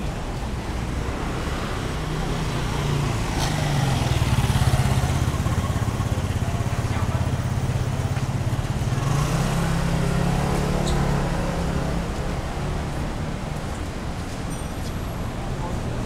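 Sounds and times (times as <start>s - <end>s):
street noise: 0.0s - 16.0s
vehicle engine humming: 0.0s - 16.0s.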